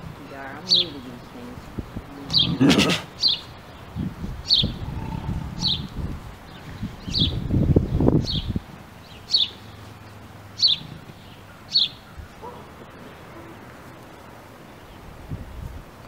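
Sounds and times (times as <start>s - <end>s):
bird chirping: 0.5s - 1.5s, 2.2s - 15.1s.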